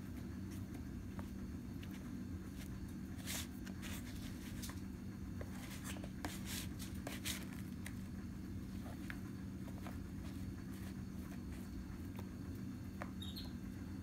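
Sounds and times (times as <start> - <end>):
handling rustles and scrapes: 0.4 - 12.3.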